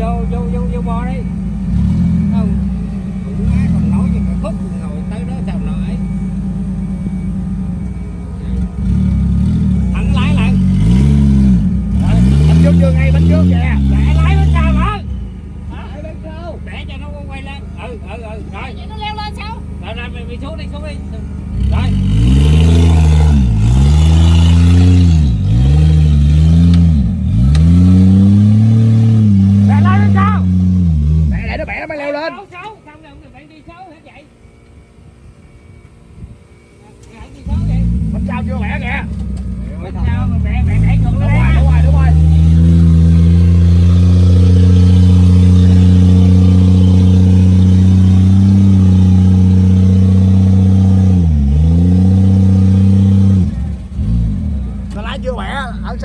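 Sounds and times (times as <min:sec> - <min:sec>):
truck engine revving hard: 0:00.0 - 0:32.5, 0:36.1 - 0:56.0.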